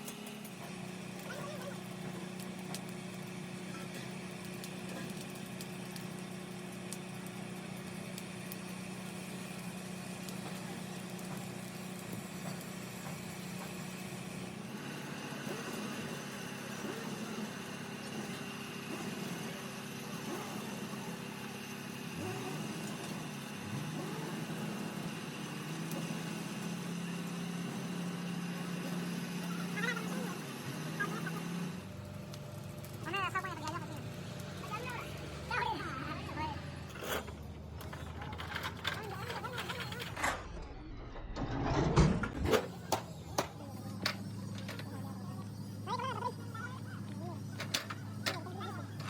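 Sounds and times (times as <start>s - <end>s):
steady machine hum: 0.0s - 49.0s.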